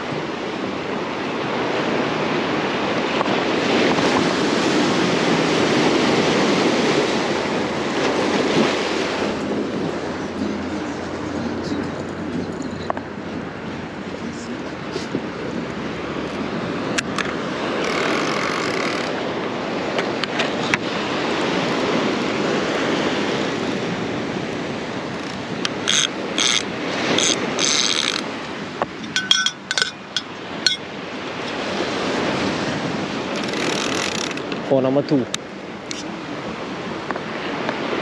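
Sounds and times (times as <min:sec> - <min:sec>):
ocean surf washing in: 0:00.0 - 0:38.0
wind on microphone: 0:00.0 - 0:38.0.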